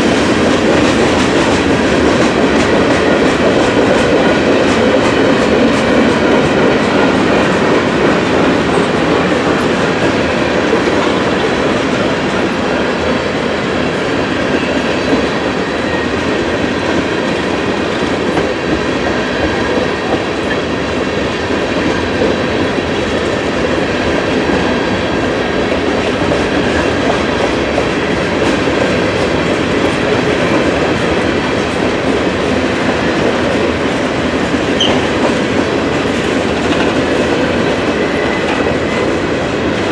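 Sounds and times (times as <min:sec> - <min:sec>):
freight train wheels clattering on rails: 0:00.0 - 0:39.9.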